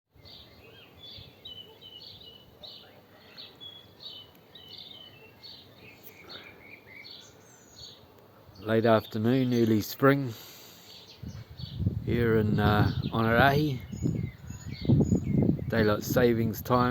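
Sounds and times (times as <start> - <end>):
birds chirping and whistling: 0.2 - 8.7, 10.5 - 16.9.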